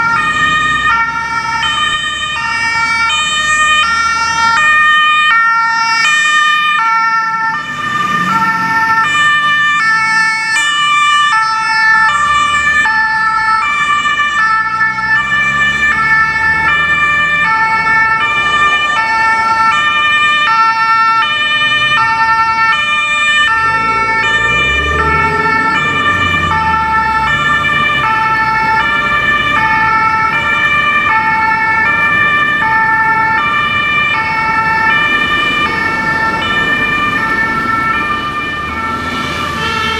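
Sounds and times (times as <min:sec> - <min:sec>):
truck engine revving: 0:00.0 - 0:39.9
two-tone siren: 0:00.0 - 0:39.9.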